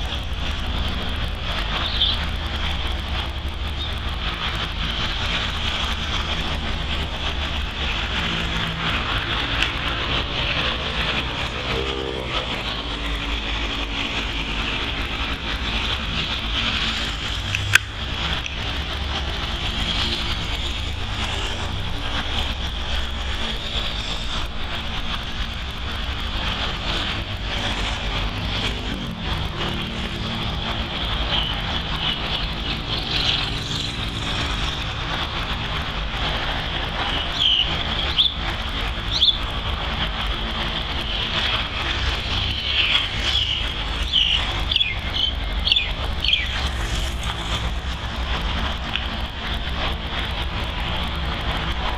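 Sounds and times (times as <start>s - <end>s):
high drone: 0.0s - 51.9s
low rumble: 0.0s - 51.9s.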